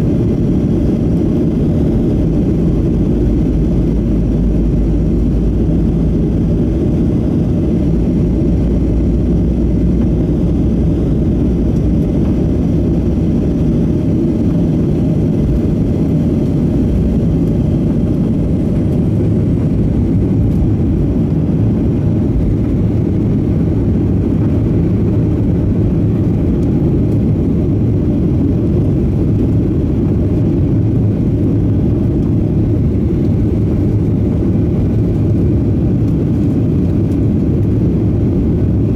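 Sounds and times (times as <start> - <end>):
jet engines at takeoff thrust: 0.0 - 38.9
runway rumble: 0.0 - 38.9
steady low hum: 0.0 - 38.9.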